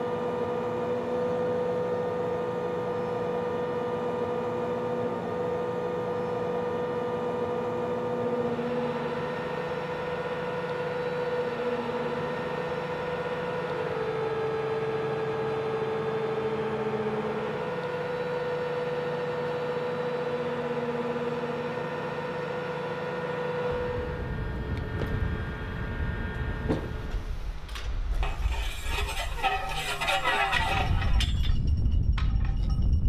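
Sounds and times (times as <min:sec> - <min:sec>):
heavy vehicle engine whining: 0:00.0 - 0:32.8.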